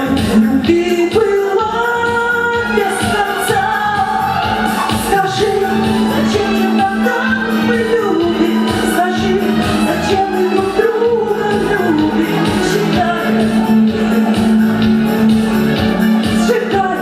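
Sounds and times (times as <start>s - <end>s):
woman singing: 0.0s - 15.4s, 16.2s - 17.0s
drum beat: 0.0s - 17.0s
pop backing track: 0.0s - 17.0s.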